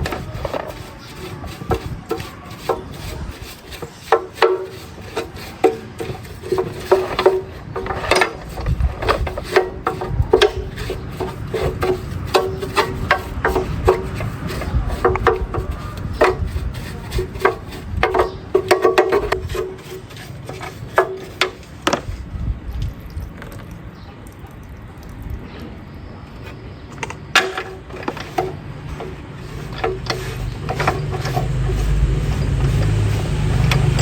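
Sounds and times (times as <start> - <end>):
sharp clicks and knocks: 0.0 - 22.2, 26.4 - 34.0
hand tool scraping and rubbing: 0.0 - 22.3, 26.4 - 34.0.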